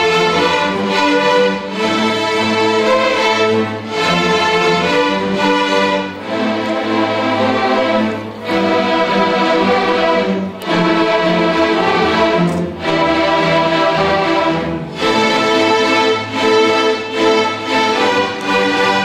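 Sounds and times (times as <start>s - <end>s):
string orchestra held chords: 0.0s - 19.0s.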